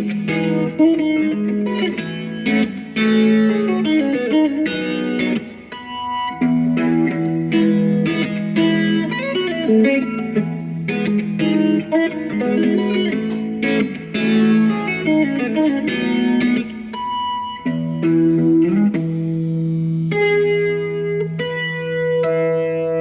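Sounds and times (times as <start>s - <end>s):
plucked guitar melody: 0.0s - 23.0s.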